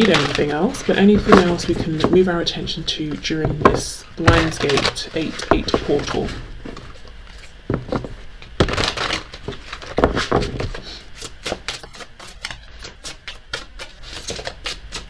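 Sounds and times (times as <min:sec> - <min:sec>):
cards being shuffled: 0:00.0 - 0:02.3, 0:04.2 - 0:15.0.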